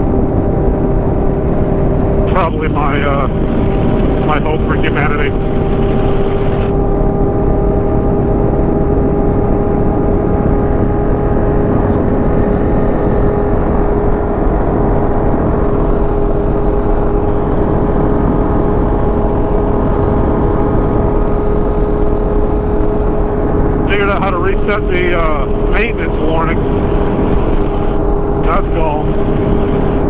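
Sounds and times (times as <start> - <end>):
wind and road noise: 0.0 - 30.0.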